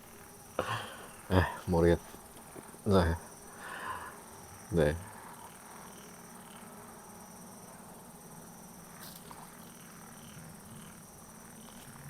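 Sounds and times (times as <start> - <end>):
insect chirps: 0.0 - 12.0
insects droning: 0.0 - 12.0.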